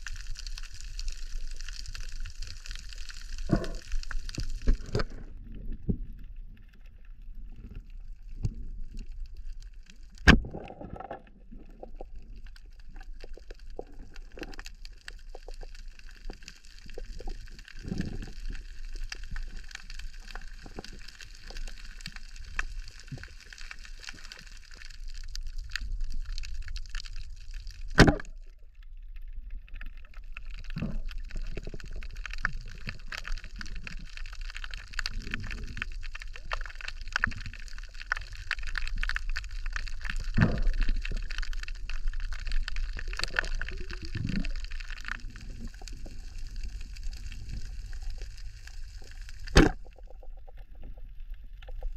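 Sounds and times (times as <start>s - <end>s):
dense reef crackling: 0.0s - 51.9s
water swishing around microphone: 0.0s - 51.9s.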